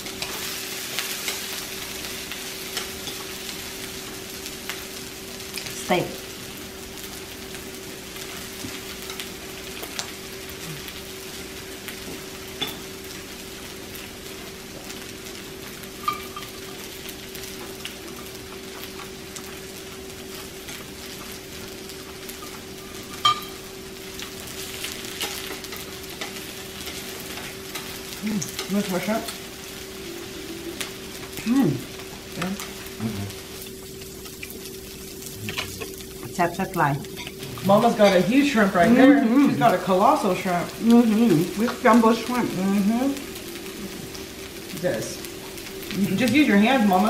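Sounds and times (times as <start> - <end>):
meat sizzling on a grill: 0.0 - 47.0.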